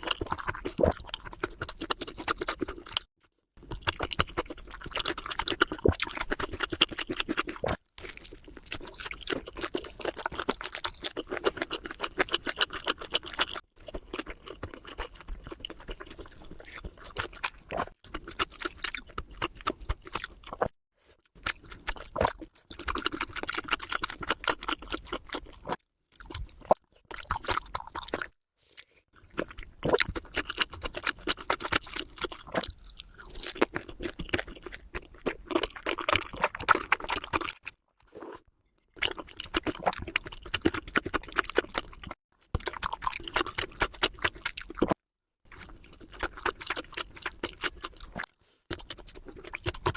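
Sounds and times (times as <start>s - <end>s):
chewing and crunching: 0.0s - 49.9s.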